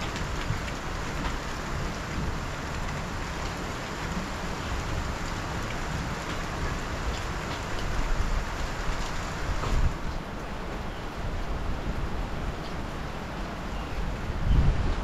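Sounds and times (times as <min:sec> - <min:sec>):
rain on roofs: 0:00.0 - 0:15.0.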